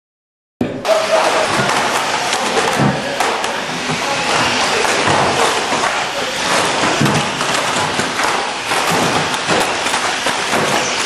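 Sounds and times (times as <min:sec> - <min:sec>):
toy cars bumping and clattering: 0:00.9 - 0:11.0
toy cars hissing and rushing: 0:00.9 - 0:11.0.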